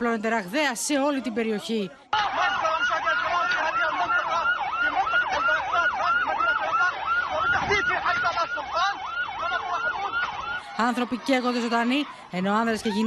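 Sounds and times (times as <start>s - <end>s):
siren yelping: 2.1s - 13.0s.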